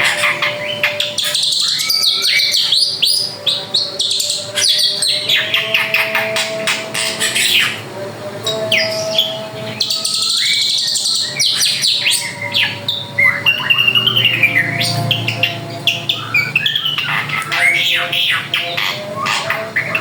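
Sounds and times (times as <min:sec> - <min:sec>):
bird singing chirps and whistles: 0:00.0 - 0:07.8, 0:08.5 - 0:20.0.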